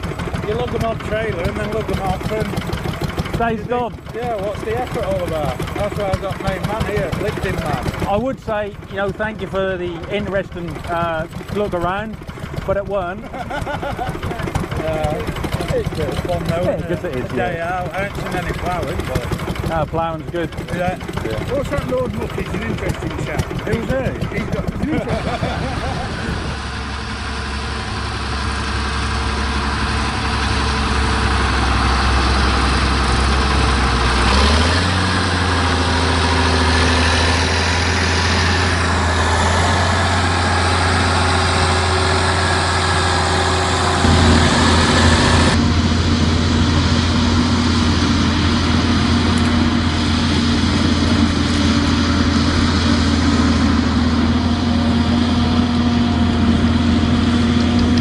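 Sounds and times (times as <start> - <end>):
large engine running: 0.0 - 58.0.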